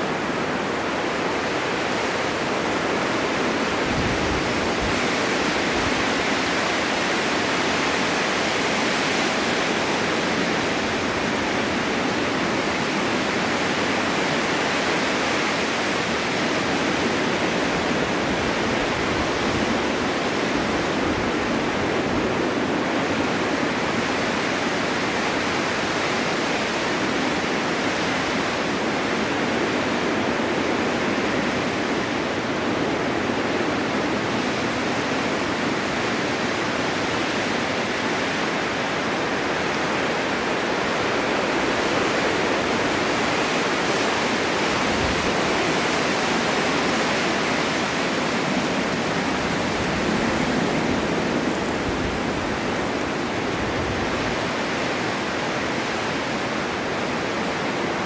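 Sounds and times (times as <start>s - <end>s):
wind blowing snow: 0.0s - 58.0s.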